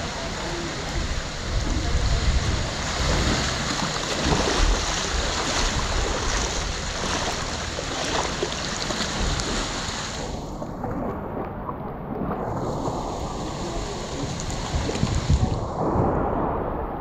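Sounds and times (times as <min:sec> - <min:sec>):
heavy rain falling on sea: 0:00.0 - 0:11.4, 0:12.0 - 0:17.0
small waves washing onto sand: 0:00.0 - 0:11.4, 0:12.1 - 0:16.8
wind rumbling on microphone: 0:00.0 - 0:17.0.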